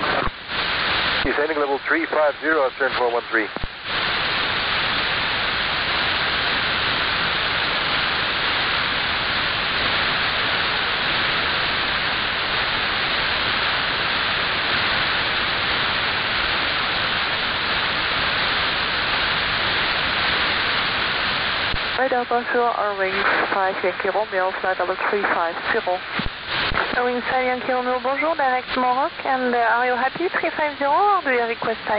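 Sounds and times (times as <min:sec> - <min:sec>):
radio static hiss: 0:00.0 - 0:31.9.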